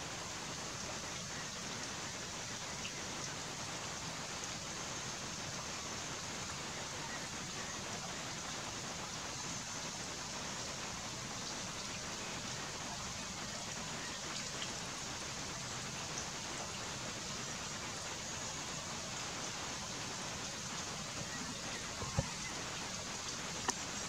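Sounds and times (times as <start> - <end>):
rain falling on foliage: 0.0 - 24.0.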